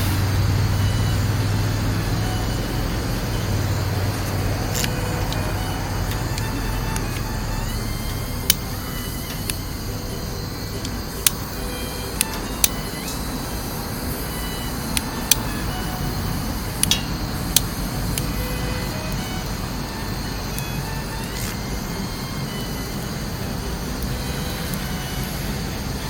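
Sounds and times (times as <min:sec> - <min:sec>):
steady low rumble: 0:00.0 - 0:26.0
wood fire crackling and popping: 0:02.2 - 0:25.7.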